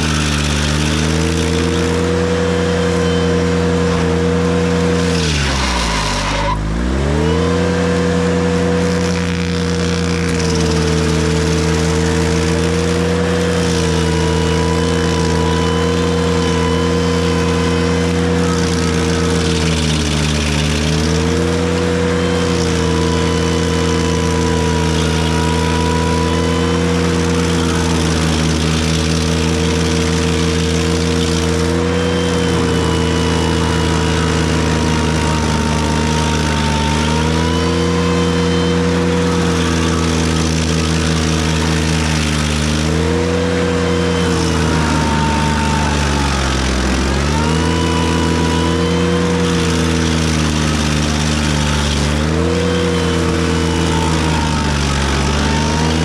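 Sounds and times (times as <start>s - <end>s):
tractor engine at high revs: 0.0s - 56.0s.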